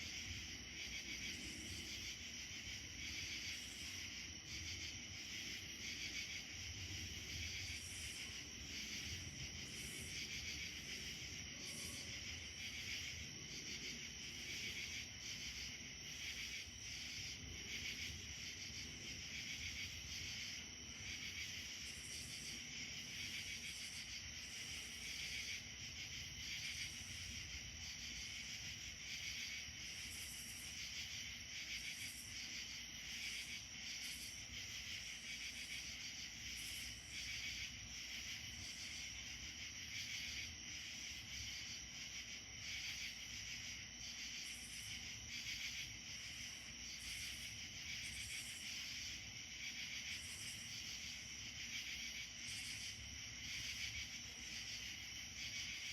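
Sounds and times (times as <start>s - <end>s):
insects trilling and buzzing: 0.0s - 55.9s.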